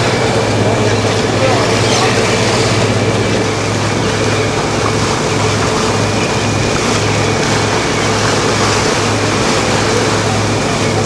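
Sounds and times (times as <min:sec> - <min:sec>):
motorboat engine humming: 0:00.0 - 0:11.0
water rushing: 0:00.0 - 0:11.0.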